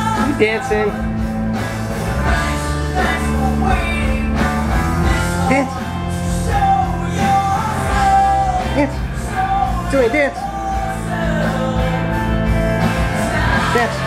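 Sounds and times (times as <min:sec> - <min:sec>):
song with singing voice: 0:00.0 - 0:14.0.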